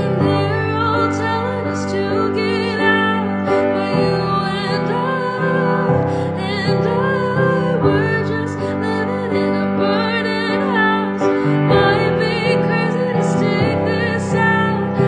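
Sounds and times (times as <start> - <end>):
piano: 0.0 - 15.0
woman singing: 0.0 - 15.0.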